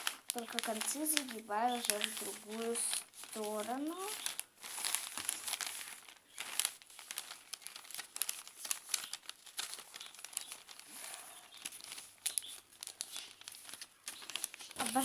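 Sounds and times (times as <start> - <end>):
newspaper rustling and crinkling: 0.0 - 15.0.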